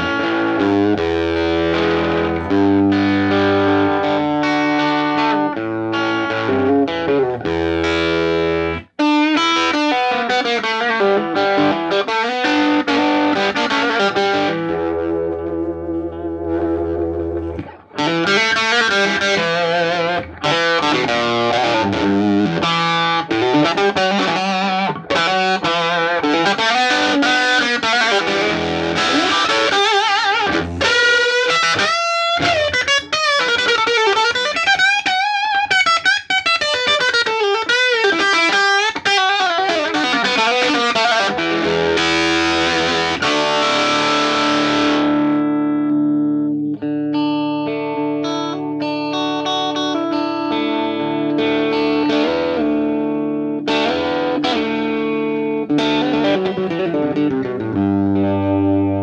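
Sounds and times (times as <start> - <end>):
electric guitar through tube amp: 0.0 - 59.0.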